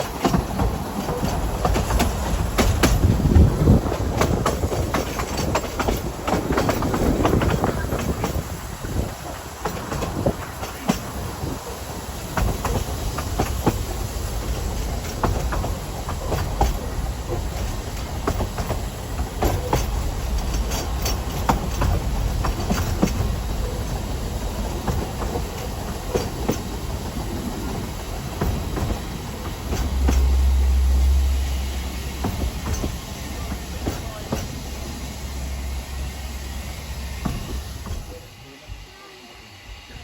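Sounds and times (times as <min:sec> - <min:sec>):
wheels clicking over track: 0:00.0 - 0:30.5, 0:32.2 - 0:34.8
train rumbling: 0:00.0 - 0:40.0.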